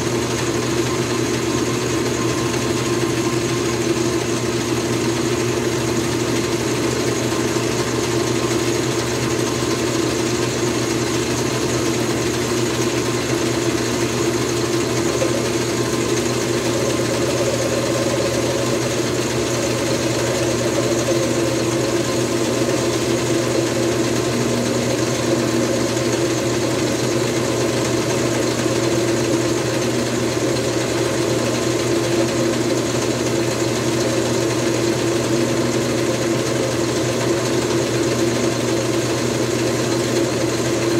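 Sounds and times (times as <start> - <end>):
metal lathe motor hum: 0.0 - 40.9.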